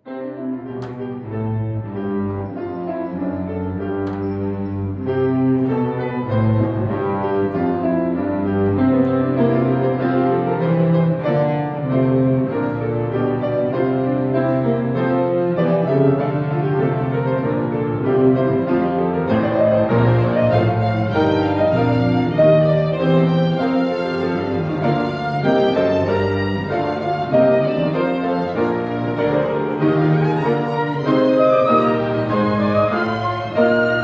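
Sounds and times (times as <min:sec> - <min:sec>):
piano playing: 0:00.0 - 0:34.0
strings playing: 0:00.4 - 0:34.0.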